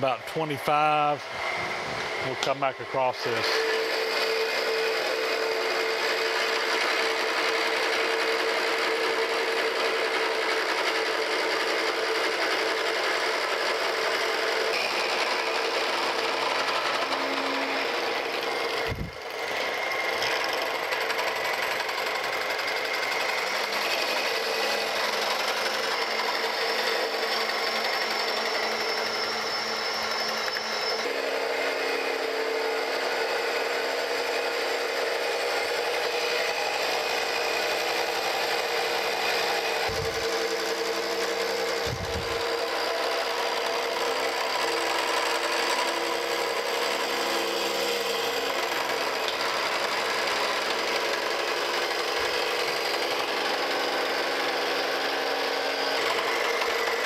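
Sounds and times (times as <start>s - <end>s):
milling machine grinding: 0.0s - 57.0s.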